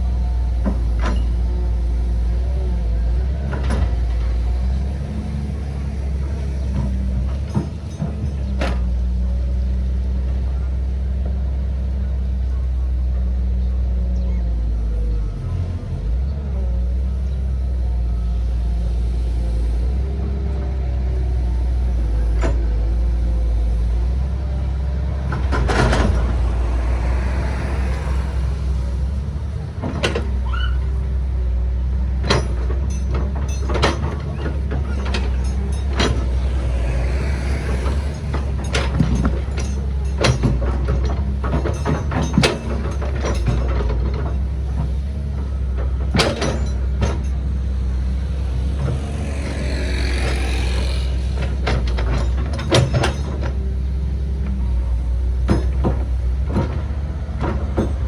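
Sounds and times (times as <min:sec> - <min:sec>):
excavator engine drone: 0:00.0 - 0:58.0.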